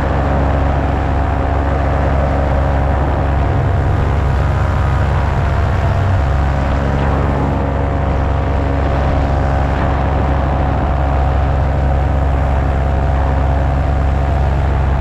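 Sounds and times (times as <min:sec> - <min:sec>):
paramotor engine droning: 0:00.0 - 0:15.0.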